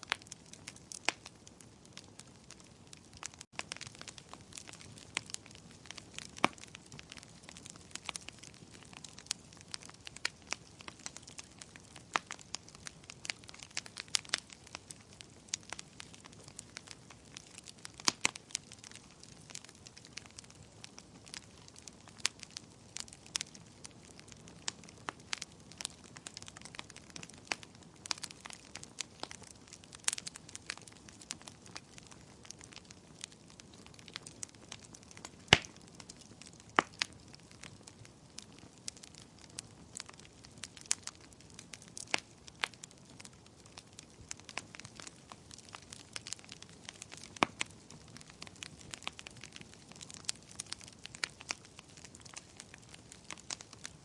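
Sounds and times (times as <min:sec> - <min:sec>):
bonfire pops and snaps: 0:00.0 - 0:54.0.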